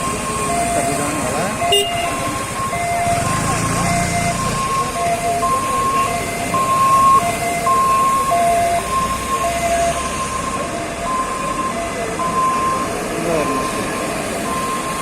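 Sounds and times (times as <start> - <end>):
street noise: 0.0 - 15.0
two-tone siren: 0.0 - 15.0.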